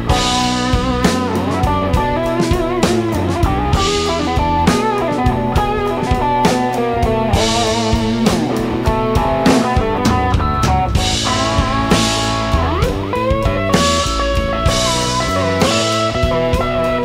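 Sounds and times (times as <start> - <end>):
bluesy electric guitar lead: 0.0 - 17.0
drum kit beat: 0.0 - 17.0.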